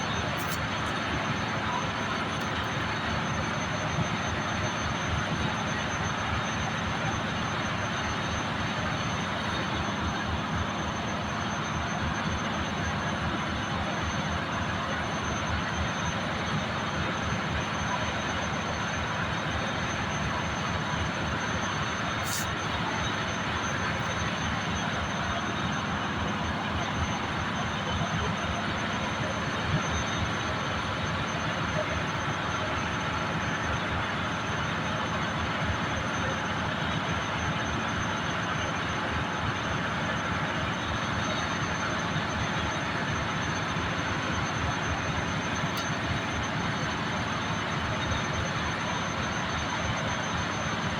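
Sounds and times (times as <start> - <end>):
engine-room machinery running: 0.0 - 50.9
faint high whine: 0.0 - 50.9.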